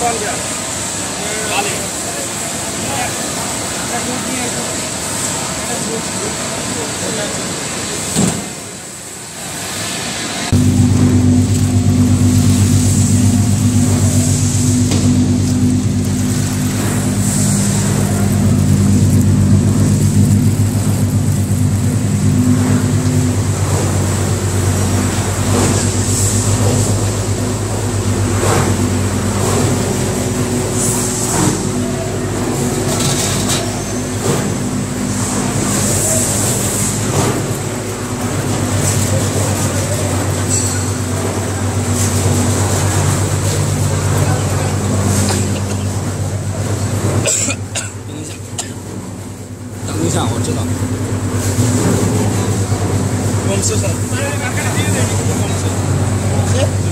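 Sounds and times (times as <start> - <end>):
high machine whine: 0.0 - 56.9
machinery motor hum: 9.6 - 56.9.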